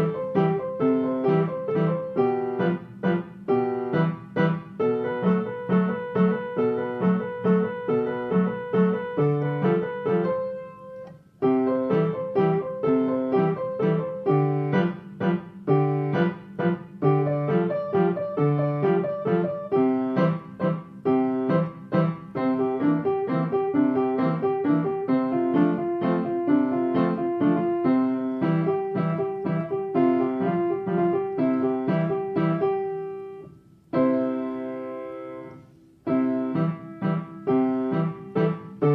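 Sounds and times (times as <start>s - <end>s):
piano playing a waltz: 0.0s - 38.9s.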